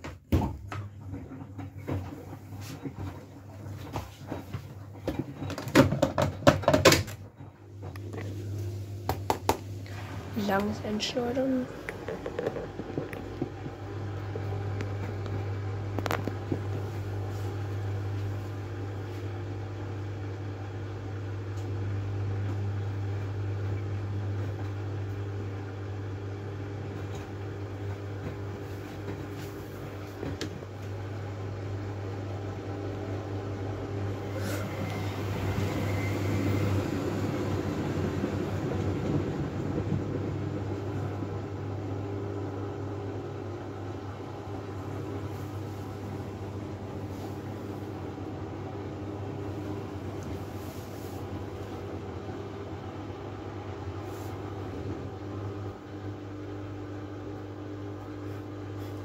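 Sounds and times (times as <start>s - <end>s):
washing machine humming: 0.0s - 59.0s.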